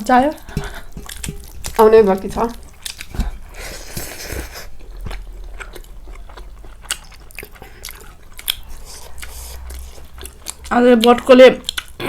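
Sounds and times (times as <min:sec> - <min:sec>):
person chewing food: 0:00.3 - 0:12.0.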